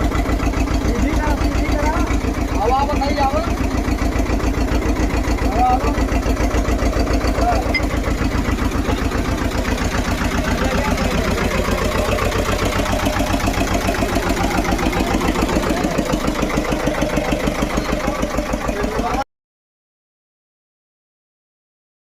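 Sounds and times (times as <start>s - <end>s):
tractor engine idling: 0.0s - 19.2s.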